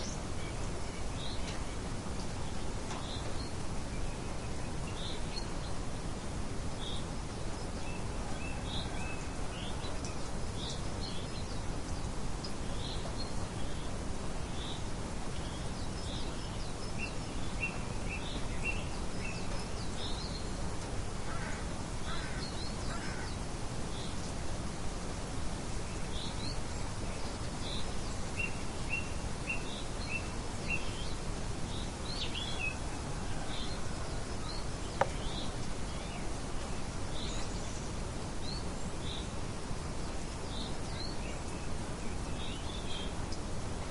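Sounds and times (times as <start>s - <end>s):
outdoor ambience hiss: 0.0s - 43.9s
songbirds chirping: 0.0s - 43.9s.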